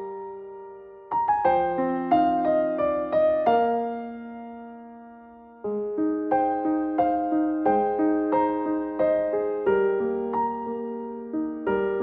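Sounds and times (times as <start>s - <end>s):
keyboard playing steady notes: 0.0s - 12.0s.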